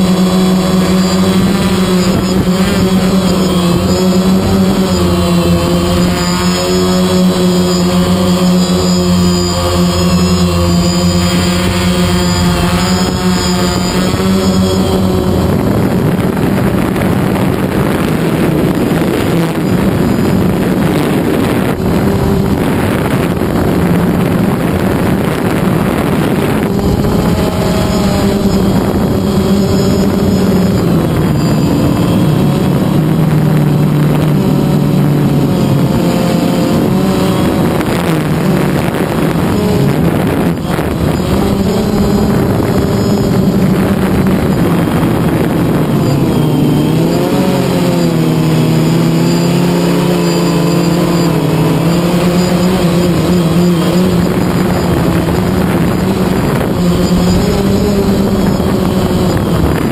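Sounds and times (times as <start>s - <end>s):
drone propellers buzzing whine: 0.0s - 59.9s
wind noise on microphone: 0.0s - 59.9s.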